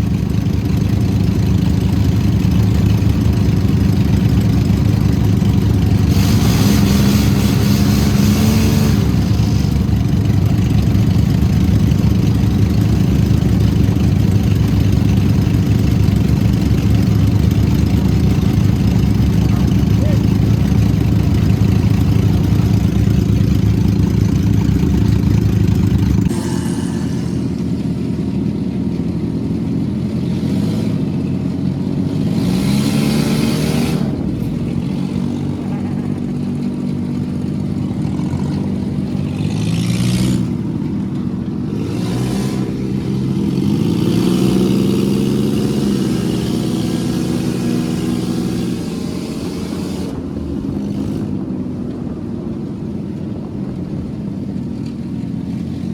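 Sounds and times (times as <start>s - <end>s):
vehicle engine revving: 0.0s - 55.9s.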